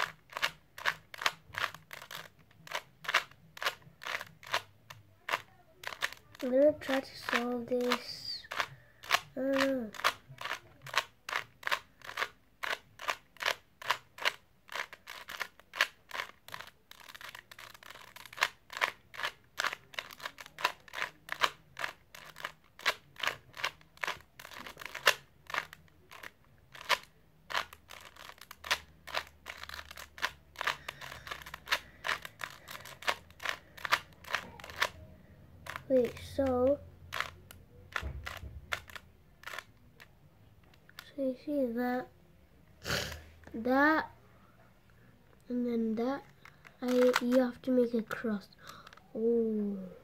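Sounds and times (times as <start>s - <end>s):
puzzle cube clicking: 0.0s - 41.2s, 45.5s - 49.2s.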